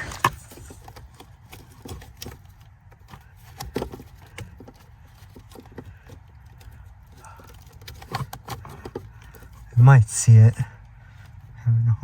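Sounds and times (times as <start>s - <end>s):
clicks and knocks of plastic connectors: 0.0s - 9.8s.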